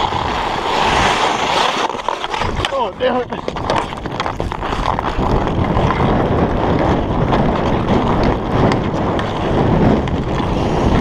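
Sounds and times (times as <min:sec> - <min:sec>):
skate blades scraping on ice: 0:00.0 - 0:11.0
wind noise on microphone: 0:00.0 - 0:11.0.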